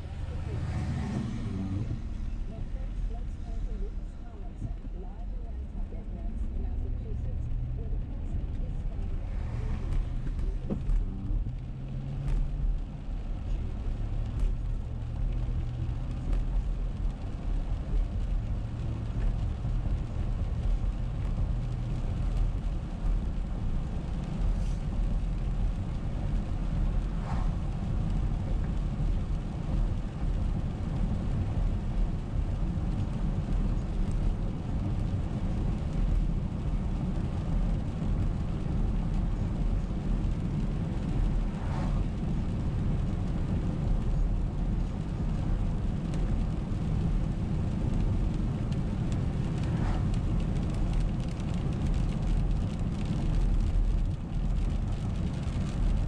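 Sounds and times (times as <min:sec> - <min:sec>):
car driving on wet road: 0:00.0 - 0:56.0
low engine hum: 0:00.0 - 0:56.0.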